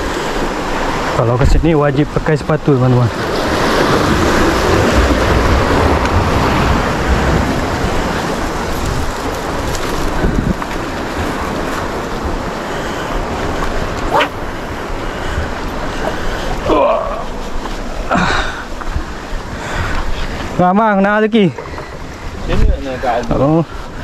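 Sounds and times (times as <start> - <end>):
sea waves washing against rocks: 0.0 - 24.0
wind buffeting microphone: 0.0 - 24.0.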